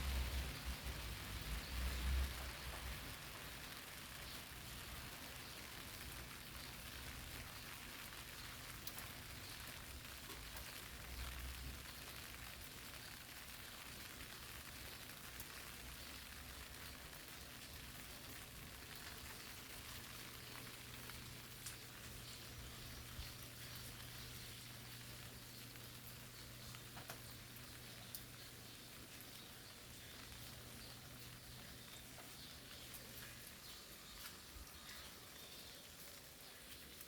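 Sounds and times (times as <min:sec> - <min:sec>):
rain falling on leaves: 0:00.0 - 0:37.0.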